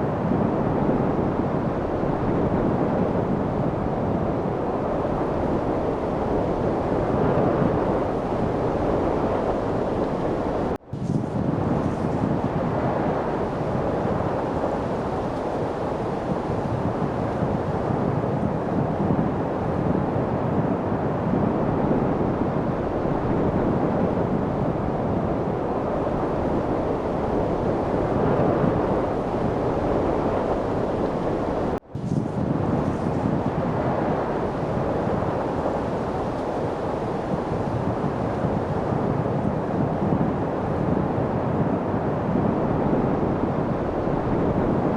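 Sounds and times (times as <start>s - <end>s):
wind blowing: 0.0s - 44.9s.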